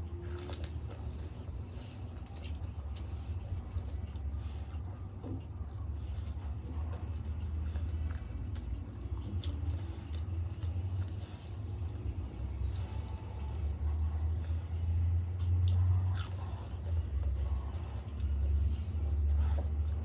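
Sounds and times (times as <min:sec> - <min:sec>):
mouth chewing: 0:00.0 - 0:20.0
steady low hum: 0:00.0 - 0:20.0.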